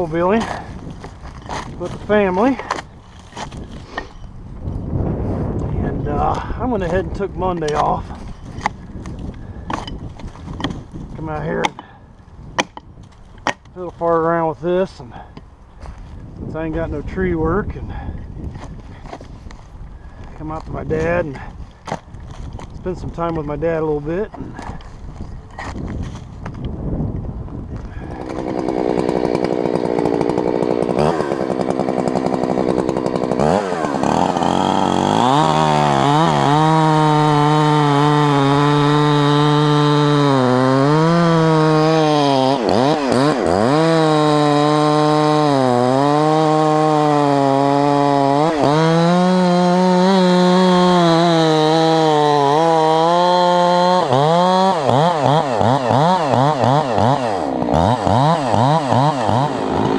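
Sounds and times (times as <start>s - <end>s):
chainsaw cutting bark: 0.0s - 4.3s, 5.6s - 16.0s, 17.6s - 26.2s, 27.8s - 59.9s.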